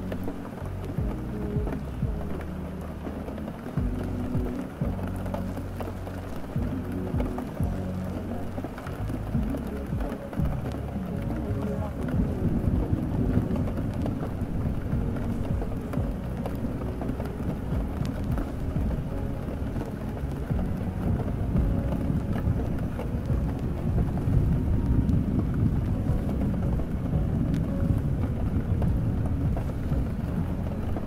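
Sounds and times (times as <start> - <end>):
deep low rumble: 0.0 - 31.0
faint muffled music: 0.0 - 31.0
steady rain: 0.0 - 31.0.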